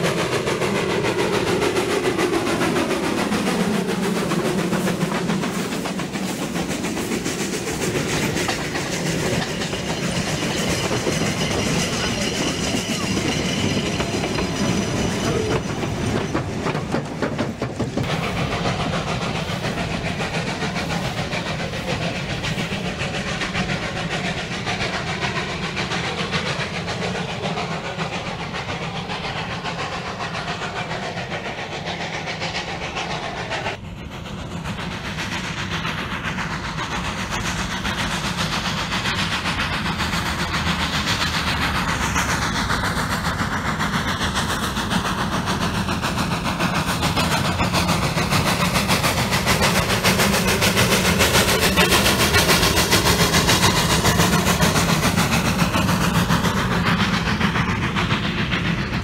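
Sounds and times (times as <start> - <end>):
train wheels clattering on track: 0.0 - 59.0.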